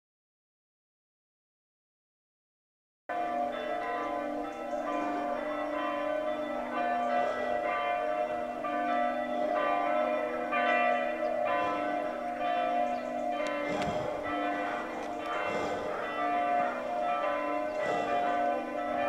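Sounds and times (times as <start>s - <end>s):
church bells ringing: 3.1s - 19.0s.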